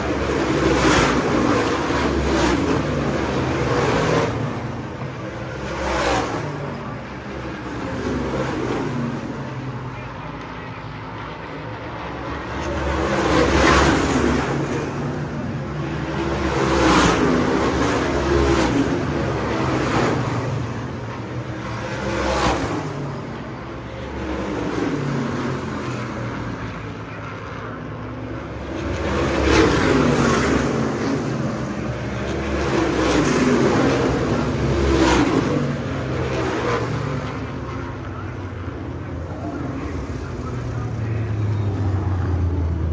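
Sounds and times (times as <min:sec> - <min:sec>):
race car engines passing: 0:00.0 - 0:42.9.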